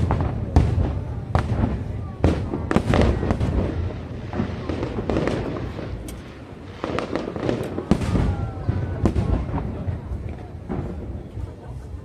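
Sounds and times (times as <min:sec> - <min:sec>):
fireworks bangs: 0:00.0 - 0:12.0
low rumble and crackle: 0:00.0 - 0:12.0.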